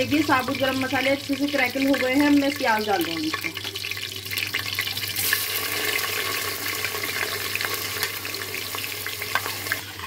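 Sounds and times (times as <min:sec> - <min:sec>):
hot oil sizzling: 0:00.0 - 0:10.0
spices crackling in oil: 0:00.0 - 0:10.0.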